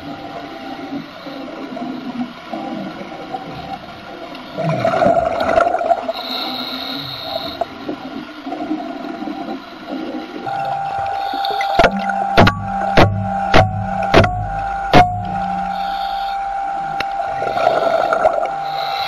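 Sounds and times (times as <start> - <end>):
underwater mechanical hum: 0.0 - 19.0
water gurgling: 0.0 - 19.0.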